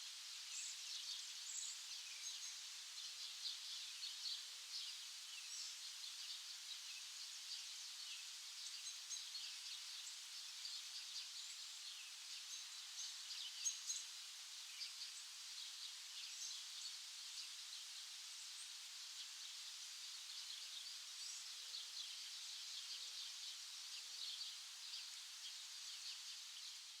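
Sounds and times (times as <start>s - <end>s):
steady hiss: 0.0s - 27.0s
small birds chirping: 0.3s - 27.0s.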